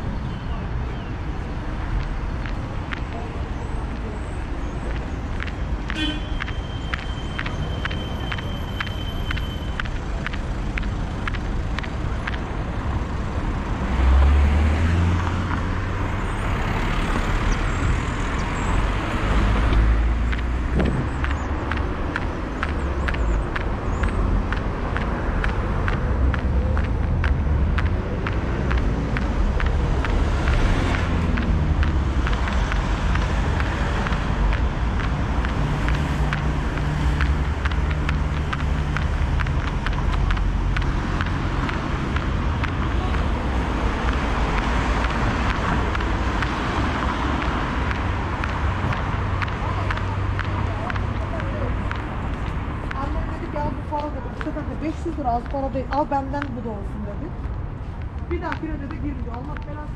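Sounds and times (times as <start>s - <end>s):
cars passing on wet road: 1.3s - 59.9s.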